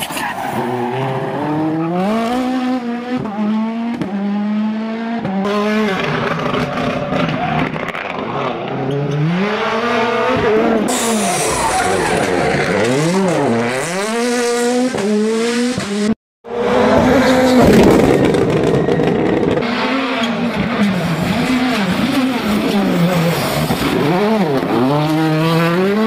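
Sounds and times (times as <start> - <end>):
rally car engine revving: 0.1 - 26.0.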